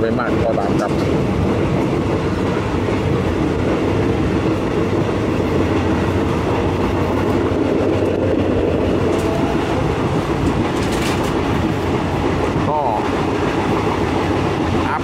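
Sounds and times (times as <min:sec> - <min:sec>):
train wheels rumbling on rails: 0:00.0 - 0:15.0
wheels clickety-clack: 0:00.0 - 0:15.0.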